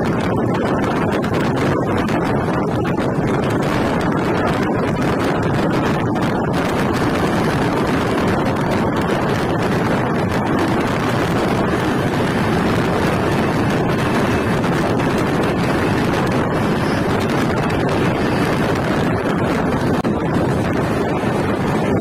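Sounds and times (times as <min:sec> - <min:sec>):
wind buffeting microphone: 0:00.0 - 0:22.0
express train rushing: 0:02.6 - 0:22.0.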